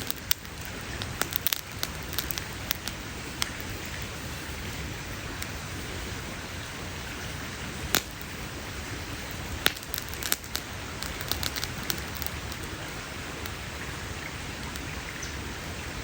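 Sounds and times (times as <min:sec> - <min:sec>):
fire popping: 0:00.0 - 0:16.0
wood fire crackling: 0:00.0 - 0:16.0.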